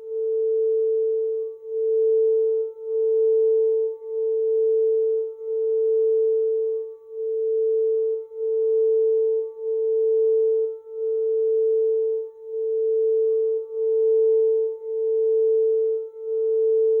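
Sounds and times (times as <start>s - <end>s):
crystal singing bowl tone: 0.0s - 17.0s.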